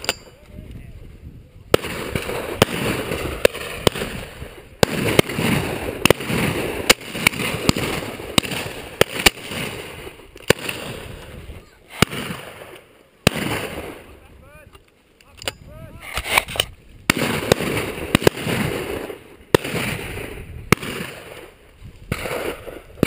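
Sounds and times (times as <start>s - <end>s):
shotgun shots: 1.7s - 14.1s, 15.5s - 23.0s.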